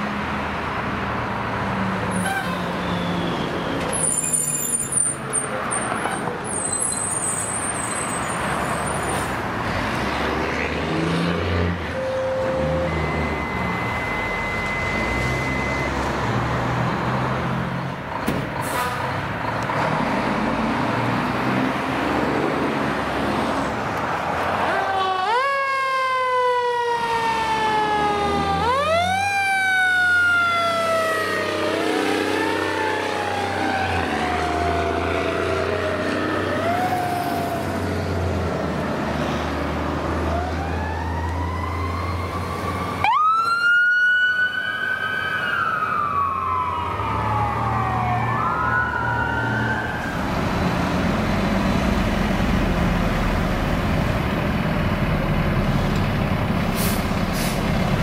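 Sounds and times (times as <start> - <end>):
road noise: 0.0 - 58.0
truck engine rumble: 0.0 - 58.0
fire truck sirens wailing: 1.5 - 9.9, 10.6 - 58.0.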